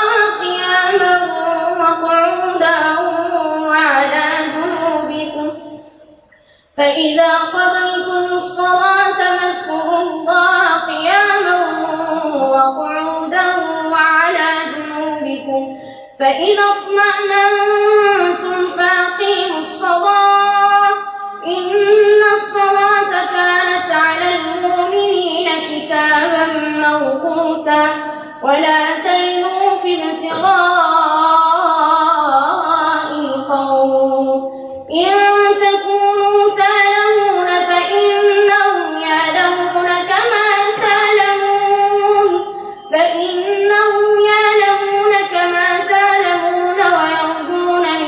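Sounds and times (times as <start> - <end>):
boy reciting melodically: 0.0 - 48.0.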